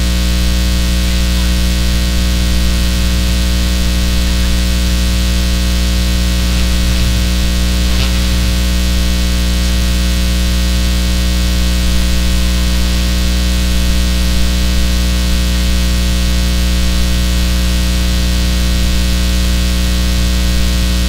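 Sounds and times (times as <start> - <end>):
electrical mains hum and hiss: 0.0 - 21.0.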